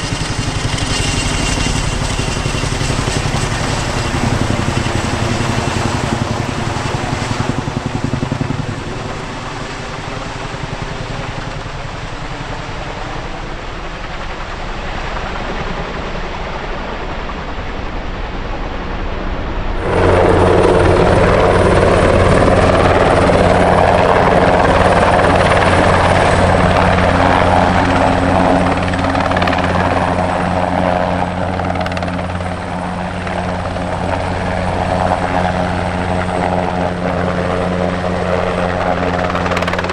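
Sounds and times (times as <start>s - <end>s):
helicopter rotors and turbines: 0.0s - 39.9s.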